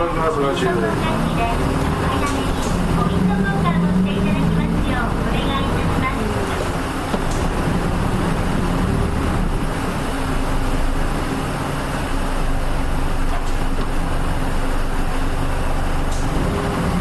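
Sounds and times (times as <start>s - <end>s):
diesel engine hum: 0.0s - 17.0s
road and tyre noise: 0.0s - 17.0s.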